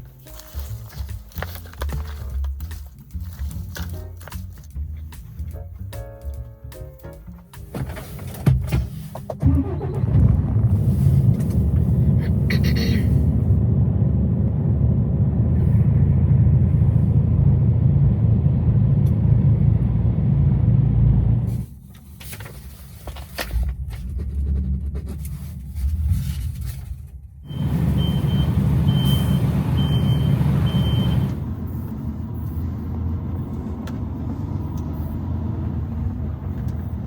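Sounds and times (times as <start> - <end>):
diesel truck engine rumbling: 0.0 - 37.0.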